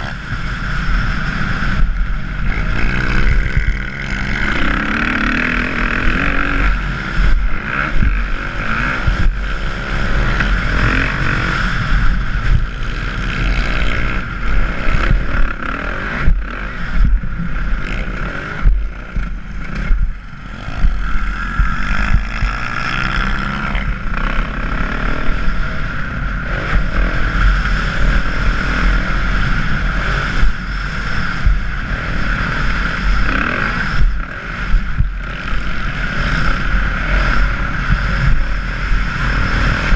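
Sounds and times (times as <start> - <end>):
dirt bike engine revving: 0.0 - 39.9
wind noise on microphone: 0.0 - 39.9.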